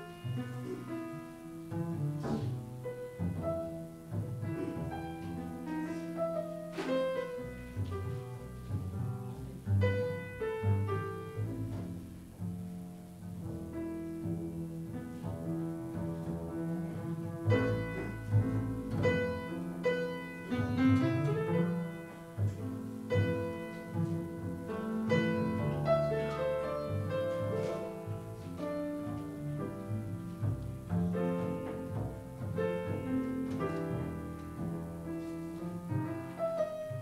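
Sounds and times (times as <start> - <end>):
double bass: 0.0 - 37.0
grand piano: 0.0 - 37.0.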